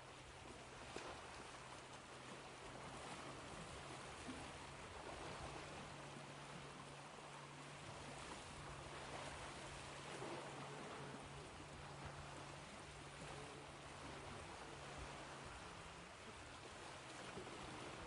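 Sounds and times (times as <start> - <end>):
ocean waves washing: 0.0 - 18.0
low hum: 2.2 - 18.0.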